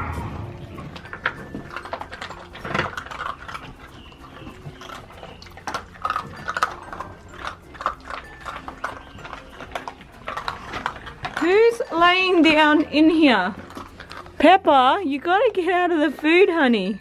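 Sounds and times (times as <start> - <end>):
puppies crunching kibble: 0.0 - 17.0.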